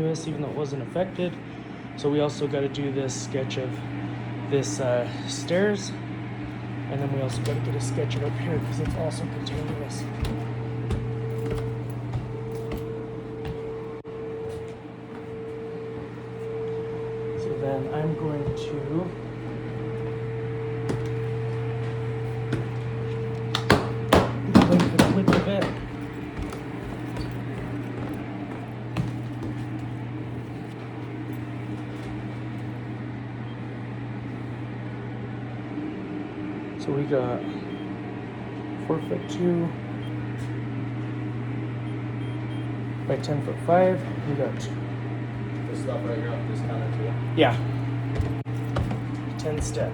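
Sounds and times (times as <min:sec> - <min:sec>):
steady two-tone machine hum: 0:00.0 - 0:49.9.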